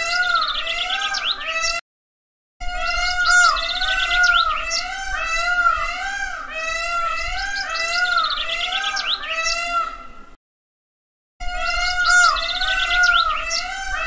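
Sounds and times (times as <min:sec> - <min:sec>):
birds swooping calls: 0:00.0 - 0:01.8, 0:02.6 - 0:10.3, 0:11.4 - 0:14.0
high bird chirps and trills: 0:00.0 - 0:01.8, 0:02.6 - 0:10.1, 0:11.4 - 0:14.0.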